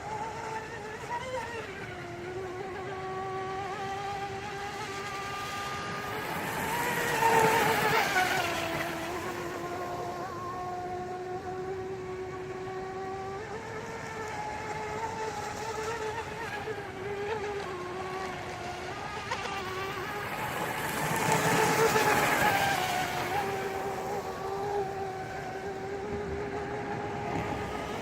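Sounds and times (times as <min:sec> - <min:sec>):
electric motor whining: 0:00.0 - 0:28.0
water rushing under hull: 0:00.0 - 0:28.0.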